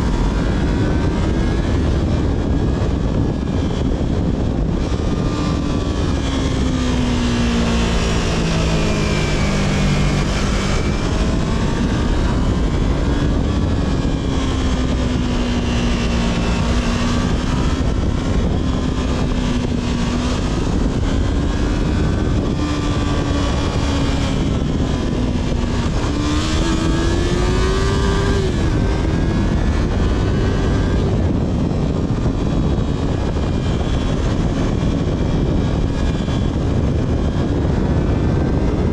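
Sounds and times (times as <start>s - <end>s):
motorcycle engine at speed: 0.0s - 38.9s
wind rush: 0.0s - 38.9s.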